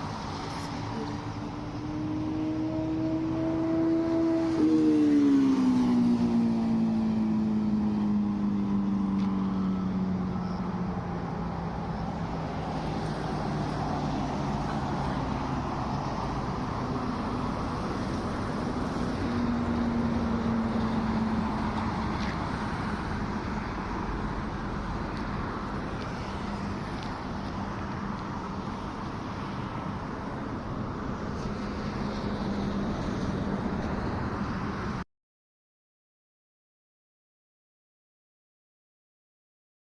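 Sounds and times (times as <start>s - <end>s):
passing vehicle engine hum: 0.0s - 35.0s
steady traffic rumble: 0.0s - 35.0s.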